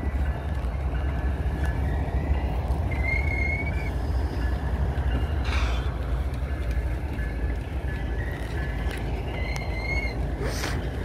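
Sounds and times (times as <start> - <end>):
high wheel squeal: 0.0 - 6.0, 7.8 - 10.9
train clatter: 0.0 - 11.0
train wheels rumbling on rail: 0.0 - 11.0.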